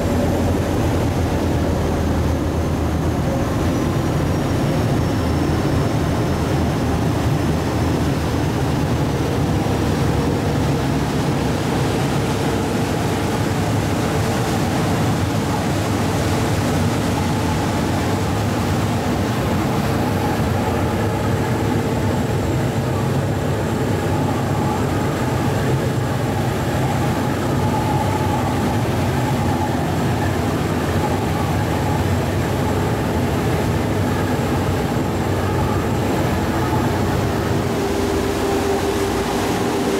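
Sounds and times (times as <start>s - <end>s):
ferry engine droning: 0.0s - 39.9s.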